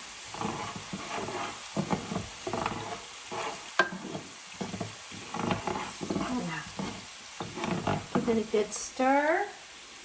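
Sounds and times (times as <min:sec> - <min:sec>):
utensil stirring and scraping: 0:00.0 - 0:08.5
vegetables sizzling in oil: 0:00.0 - 0:10.0
utensil tapping pan: 0:00.3 - 0:08.5.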